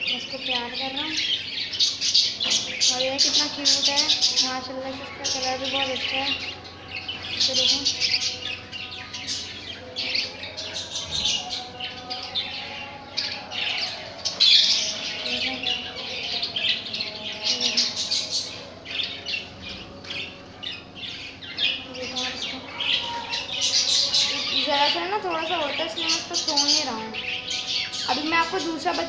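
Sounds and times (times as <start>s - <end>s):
budgerigars chirping and squawking: 0.0s - 29.0s.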